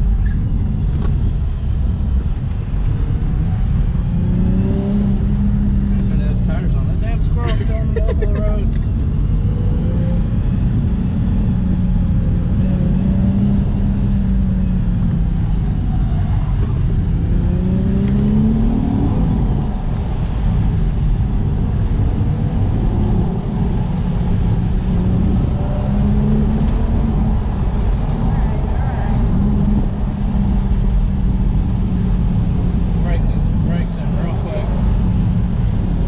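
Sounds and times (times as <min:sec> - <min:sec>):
car engine revving while driving: 0:00.0 - 0:36.0
road rumble: 0:00.0 - 0:36.0.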